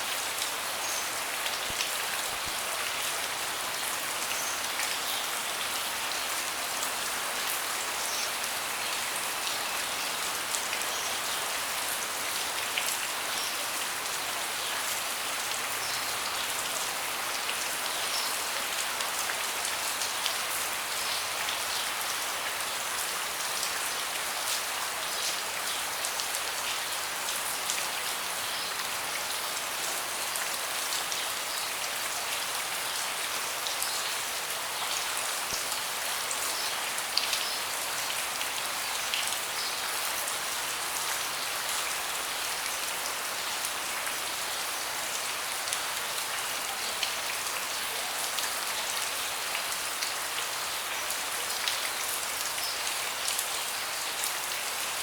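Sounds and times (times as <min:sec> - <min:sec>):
rain falling on a deck: 0:00.0 - 0:55.0.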